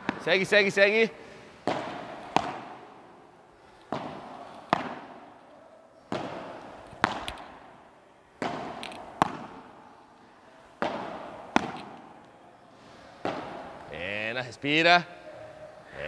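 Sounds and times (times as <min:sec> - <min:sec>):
rackets striking ball: 0:00.0 - 0:12.5, 0:13.1 - 0:14.2.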